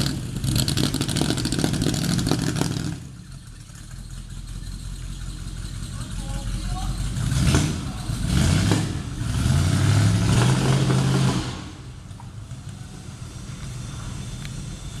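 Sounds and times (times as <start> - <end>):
car engine revving roughly: 0.0 - 3.2, 5.9 - 15.0
engine misfires: 0.0 - 15.0.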